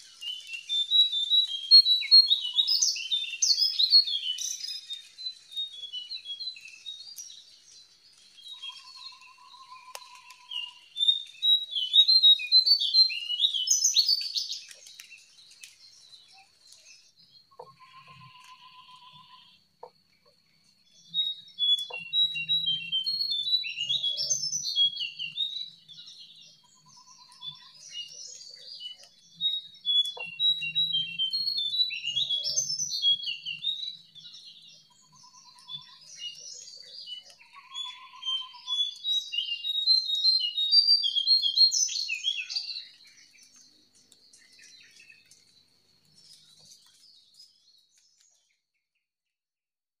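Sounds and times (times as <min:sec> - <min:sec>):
bird chirping: 0:00.0 - 0:48.8.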